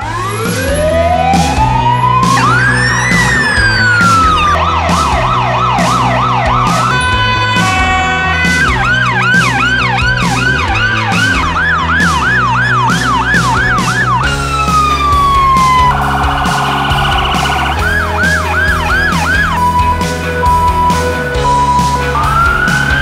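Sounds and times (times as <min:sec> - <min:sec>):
fast rising and falling siren: 0:00.0 - 0:23.0
long falling siren tone: 0:00.0 - 0:23.0
rapid warbling siren: 0:00.0 - 0:23.0.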